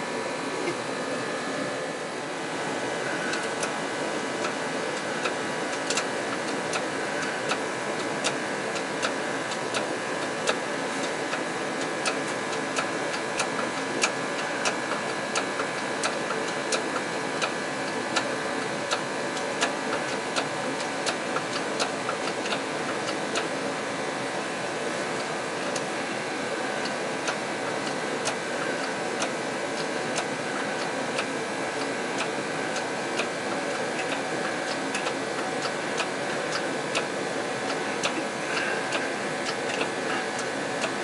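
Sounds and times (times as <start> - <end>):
space heater roaring: 0.0 - 41.0.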